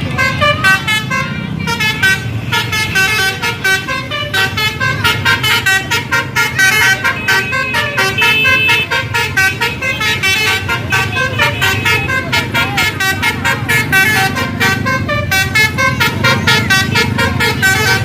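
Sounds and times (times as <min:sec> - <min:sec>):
bus horn playing a tune: 0:00.0 - 0:18.0
low engine rumble: 0:00.0 - 0:18.0.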